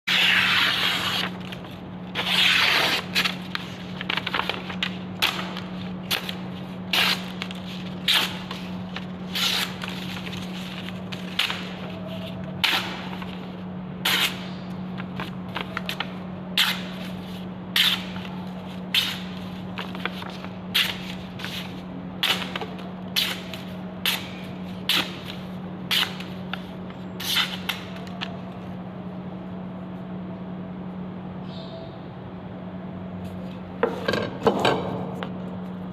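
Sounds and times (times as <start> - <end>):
steady low hum: 0.1 - 35.9.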